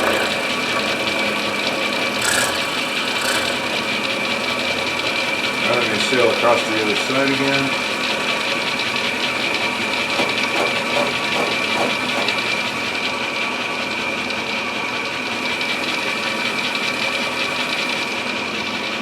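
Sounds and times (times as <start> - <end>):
milling machine high whine: 0.0 - 19.0.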